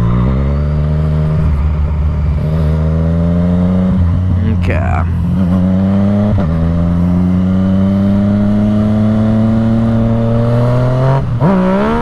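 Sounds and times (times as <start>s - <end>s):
motorcycle engine revving: 0.0s - 4.5s, 5.1s - 12.0s.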